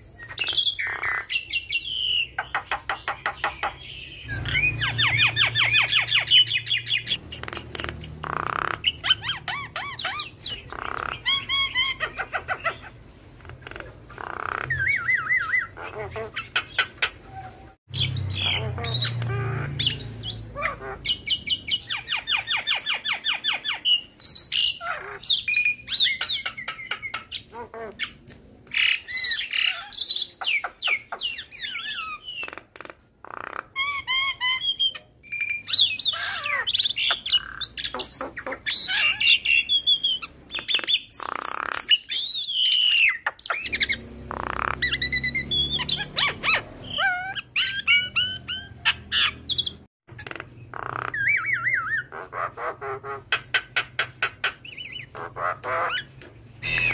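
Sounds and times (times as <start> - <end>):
myna bird singing: 0.0 - 56.9.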